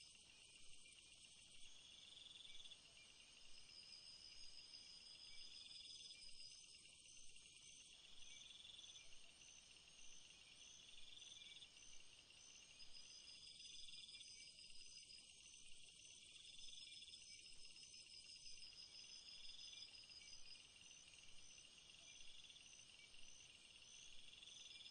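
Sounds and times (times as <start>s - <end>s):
fast pulsing insect call: 0.0s - 24.9s
insect chirring call: 0.0s - 24.9s
night insects trilling: 0.0s - 24.9s.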